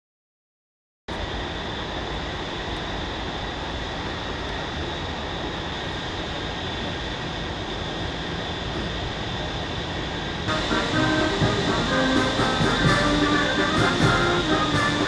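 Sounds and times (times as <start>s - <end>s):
faint high whine: 1.1s - 15.0s
harbour rumble and hiss: 1.1s - 15.0s.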